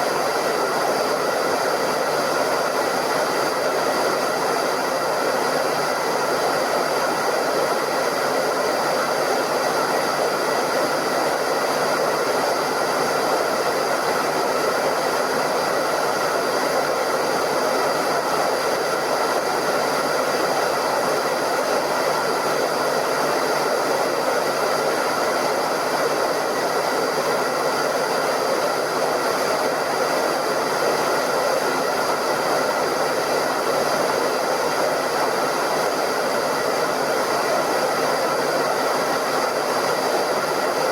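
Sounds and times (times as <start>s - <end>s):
hairdryer running: 0.0s - 40.9s.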